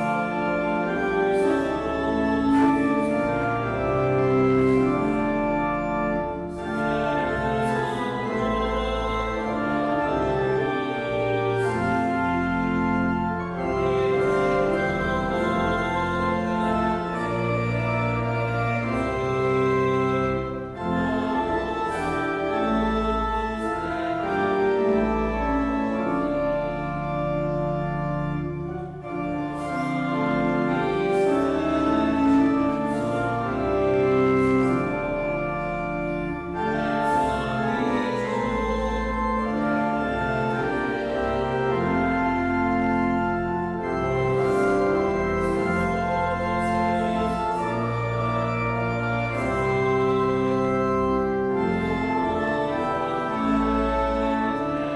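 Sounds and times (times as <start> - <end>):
church organ playing a hymn: 0.0 - 54.9.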